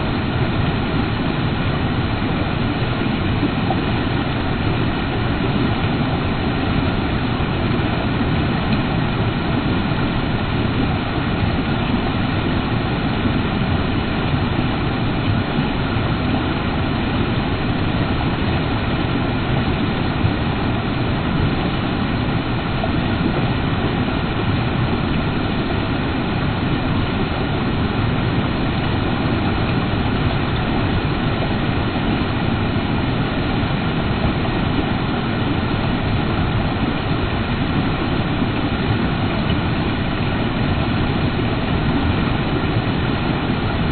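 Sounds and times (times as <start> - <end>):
creek water rushing: 0.0 - 43.9.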